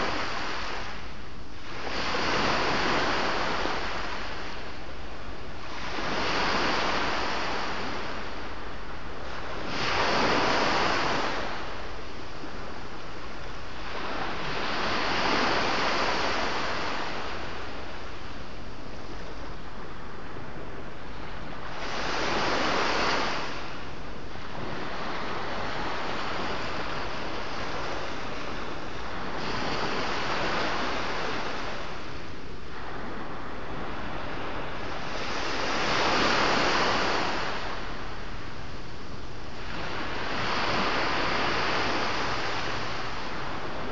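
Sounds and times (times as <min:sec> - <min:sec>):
sea wash: 0:00.0 - 0:43.9.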